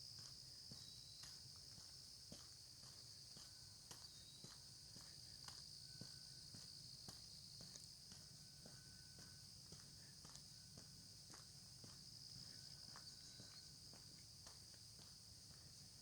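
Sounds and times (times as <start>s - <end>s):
high-pitched insect chorus: 0.1s - 16.0s
soft footsteps on lane: 0.1s - 16.0s.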